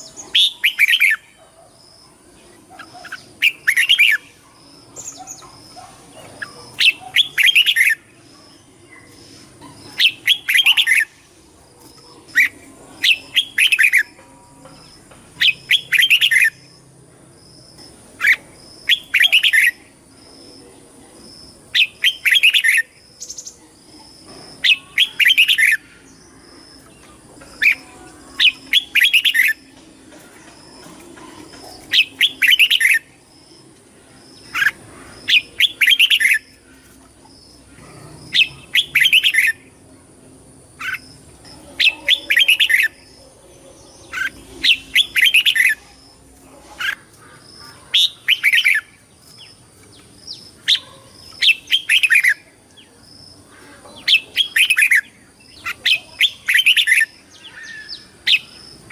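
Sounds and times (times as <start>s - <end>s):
bird singing warbled phrases: 0.0s - 16.9s, 17.7s - 58.9s.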